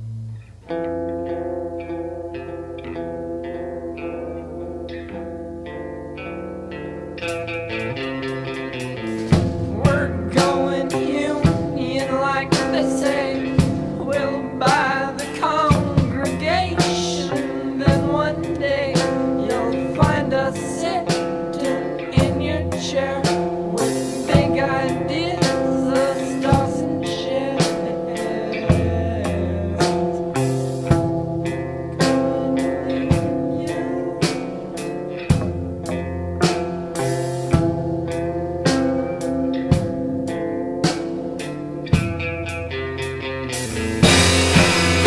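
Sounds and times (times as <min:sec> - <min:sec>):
indie rock song: 0:00.1 - 0:45.0.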